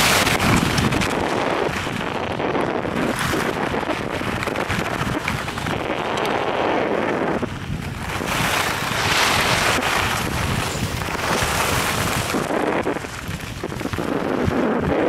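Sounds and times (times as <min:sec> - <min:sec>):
skis scraping packed snow: 0:00.0 - 0:15.0
wind rushing over microphone: 0:00.0 - 0:15.0.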